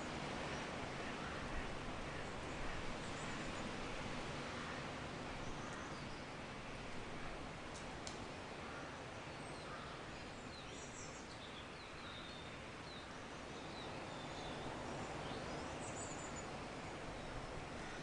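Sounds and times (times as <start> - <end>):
soft rush of noise: 0.0 - 18.0.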